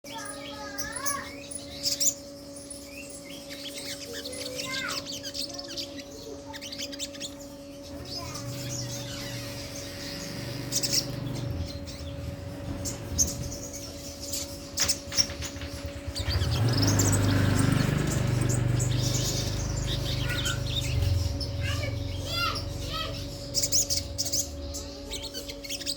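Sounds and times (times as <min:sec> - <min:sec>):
bird chirping and trilling: 0:00.0 - 0:25.9.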